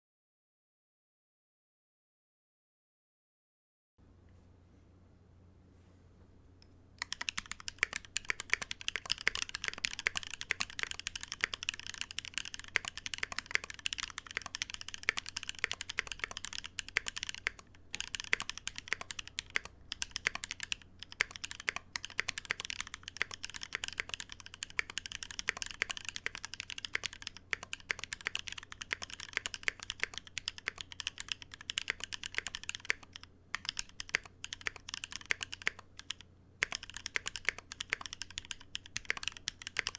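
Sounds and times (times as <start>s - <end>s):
fast typing on mechanical keyboard: 7.0s - 39.9s.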